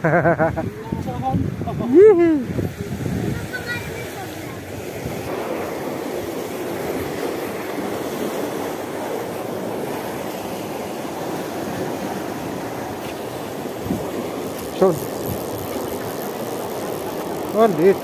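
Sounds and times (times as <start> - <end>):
water rushing along canal wall: 0.0 - 18.0.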